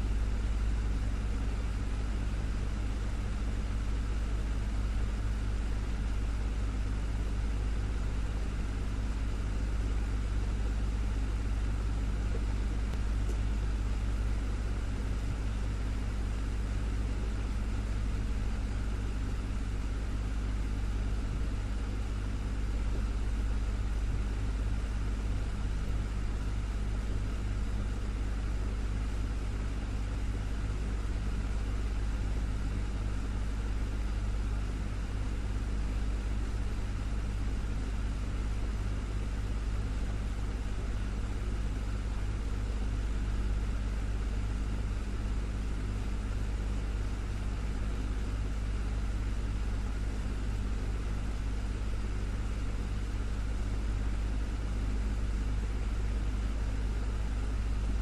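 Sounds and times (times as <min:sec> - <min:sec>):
desktop fan running: 0:00.0 - 0:58.0.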